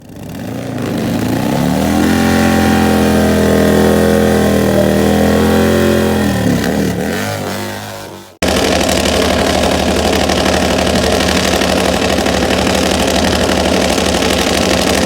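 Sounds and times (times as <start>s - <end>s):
drag motorcycle engine full throttle: 0.0s - 15.0s.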